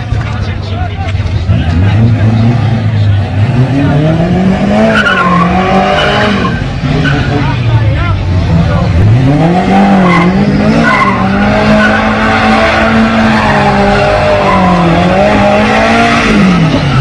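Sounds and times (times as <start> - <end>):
tyres skidding: 0.0 - 17.0
car engine revving high: 1.4 - 17.0.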